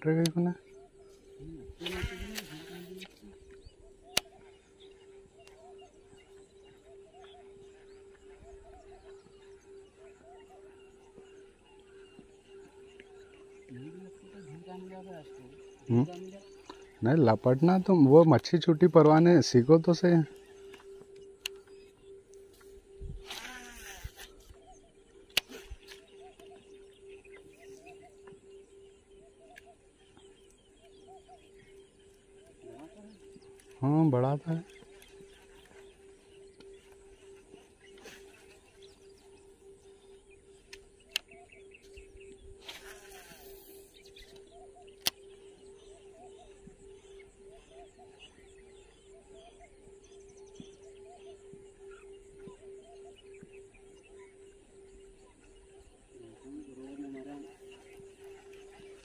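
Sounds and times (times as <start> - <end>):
faint bird calls and chirps: 0.0 - 59.0
faint steady hum: 0.0 - 59.0.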